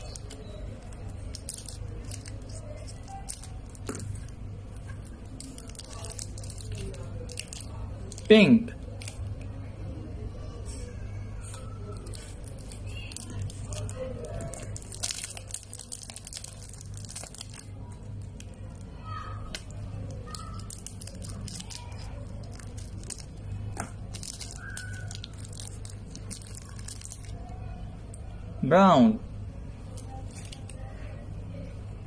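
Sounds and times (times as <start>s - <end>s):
plastic wrapper crinkling and tearing: 0.0s - 9.3s, 11.5s - 27.6s, 29.9s - 31.0s.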